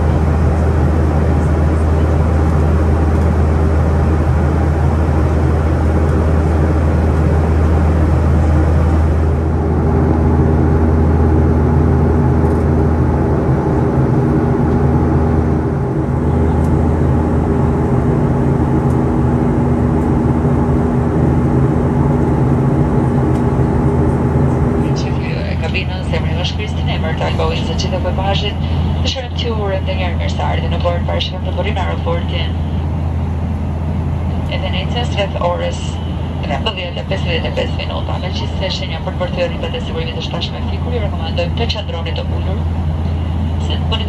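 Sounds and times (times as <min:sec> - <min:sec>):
jet engines droning: 0:00.0 - 0:44.0
steady hum tones: 0:00.0 - 0:44.0.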